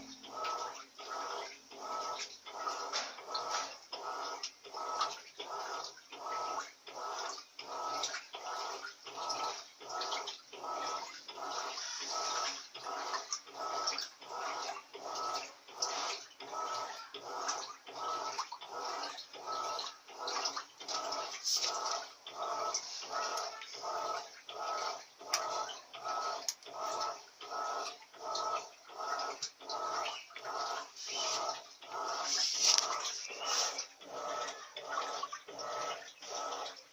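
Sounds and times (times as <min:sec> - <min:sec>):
washing machine churning water: 0:00.0 - 0:36.9.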